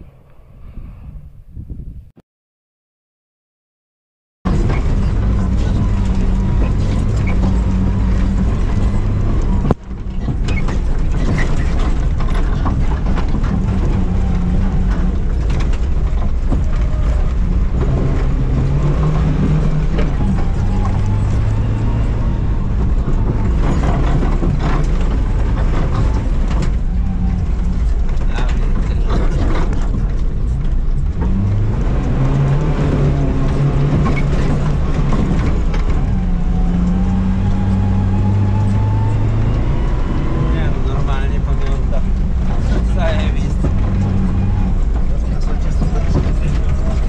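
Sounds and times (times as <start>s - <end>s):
car engine revving: 4.5s - 47.0s.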